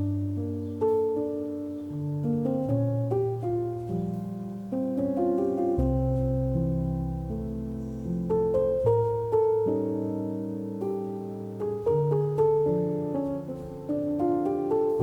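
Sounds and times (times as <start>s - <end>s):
soft solo piano chords: 0.0s - 15.0s.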